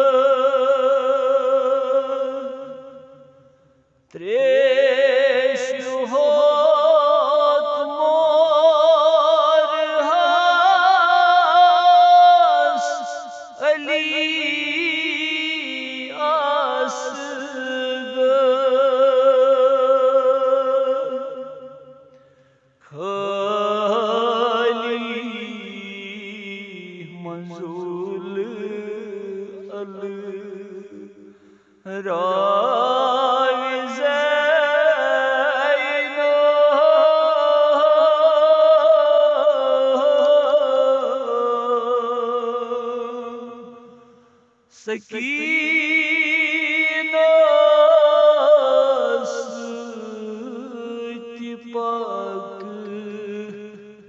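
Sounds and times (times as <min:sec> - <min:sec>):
man singing a lament: 0:00.0 - 0:03.3, 0:04.1 - 0:21.9, 0:22.8 - 0:44.1, 0:44.7 - 0:54.0.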